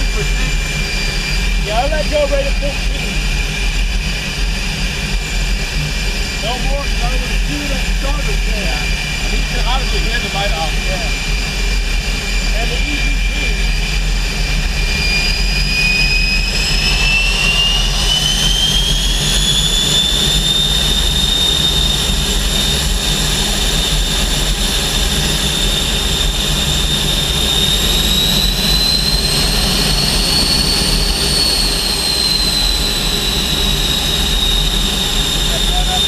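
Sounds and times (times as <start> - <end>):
jet turbine whine: 0.0 - 36.0
steady engine rumble: 0.0 - 36.0.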